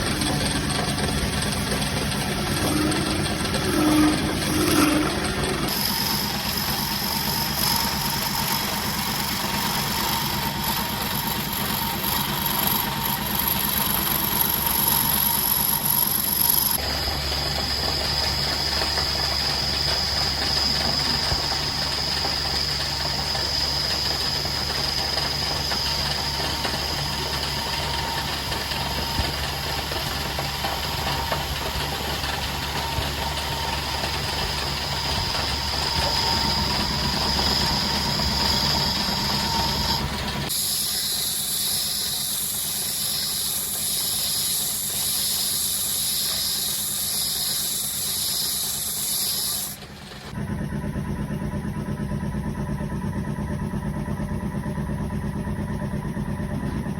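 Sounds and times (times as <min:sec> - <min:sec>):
small motor running: 0:00.0 - 0:56.9.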